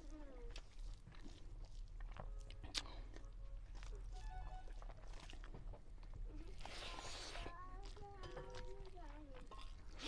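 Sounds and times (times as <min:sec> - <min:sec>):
chewing: 0:00.0 - 0:10.0
fingers mixing rice on metal plate: 0:00.0 - 0:10.0.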